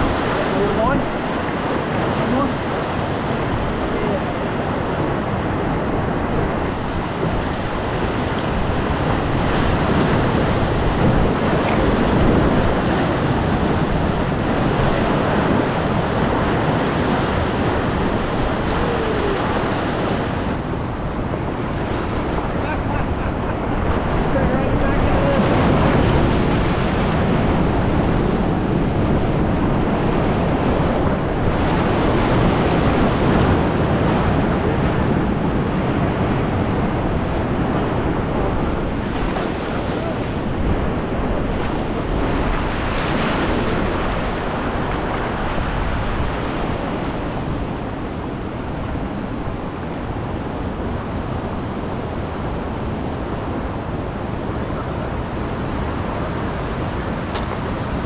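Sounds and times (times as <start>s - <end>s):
creek whitewater rushing: 0.0s - 58.0s
wind noise on microphone: 0.0s - 58.0s.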